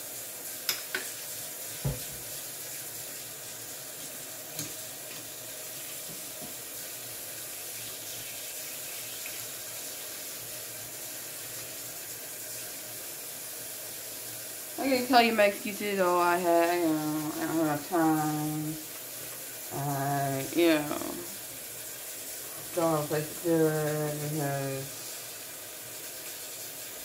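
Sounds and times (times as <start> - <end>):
tap water running into sink: 0.0 - 27.0.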